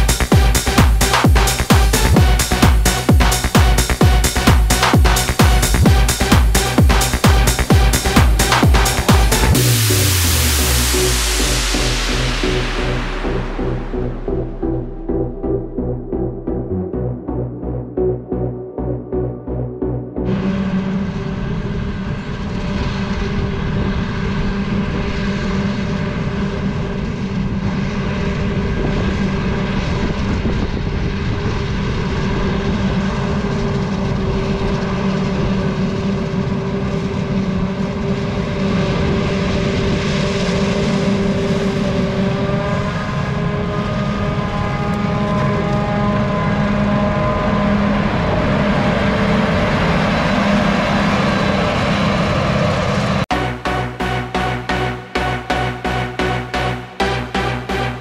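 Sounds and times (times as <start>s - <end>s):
forage harvester machine drone: 0.0s - 58.0s.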